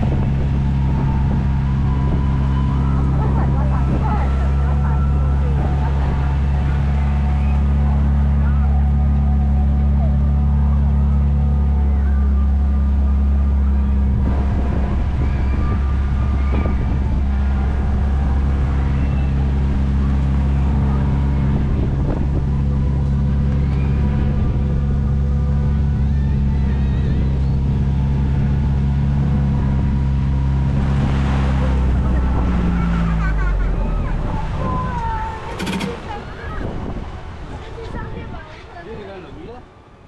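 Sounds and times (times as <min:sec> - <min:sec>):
car engine humming: 0:00.0 - 0:40.0.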